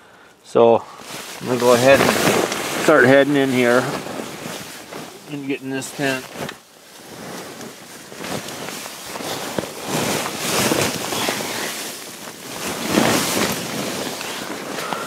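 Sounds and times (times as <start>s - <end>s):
tent fabric and clothing rustling: 0.5s - 15.0s.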